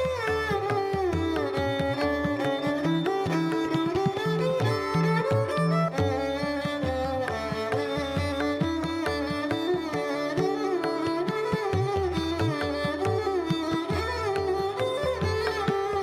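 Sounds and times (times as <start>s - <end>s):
plucked string melody: 0.0s - 16.0s.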